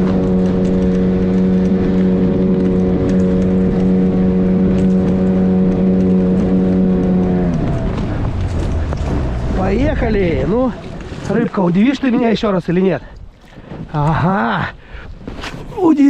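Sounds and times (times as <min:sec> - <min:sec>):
motorboat engine droning: 0:00.0 - 0:13.7.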